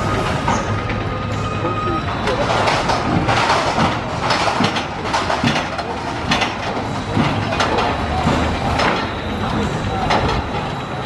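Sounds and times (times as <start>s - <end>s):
roller coaster train rumbling: 0.0s - 11.0s
clacks and rattles on track: 2.1s - 11.0s.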